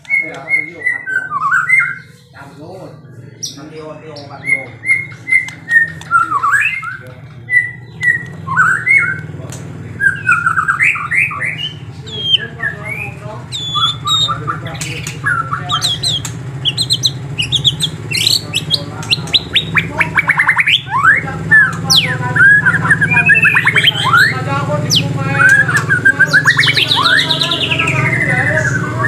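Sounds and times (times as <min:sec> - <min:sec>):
songbirds singing: 0:00.0 - 0:29.0
steady low hum: 0:00.0 - 0:29.0.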